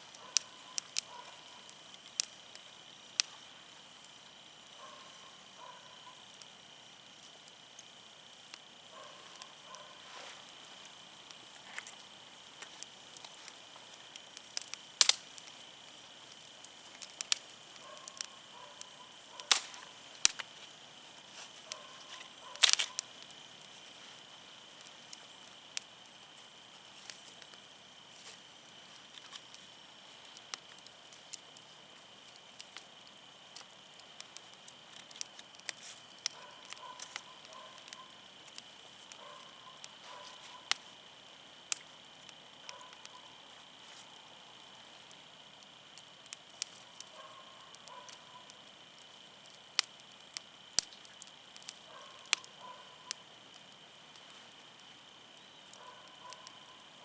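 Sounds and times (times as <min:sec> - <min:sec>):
faint high hiss: 0:00.0 - 0:57.0
firewood crackling and popping: 0:00.0 - 0:57.0.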